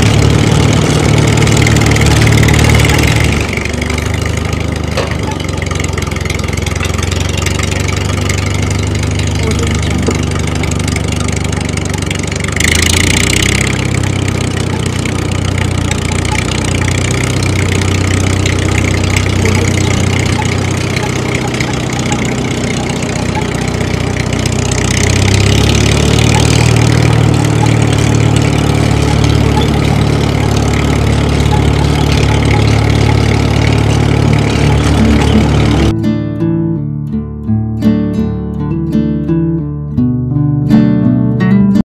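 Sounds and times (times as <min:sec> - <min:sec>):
tractor engine running: 0:00.0 - 0:36.1.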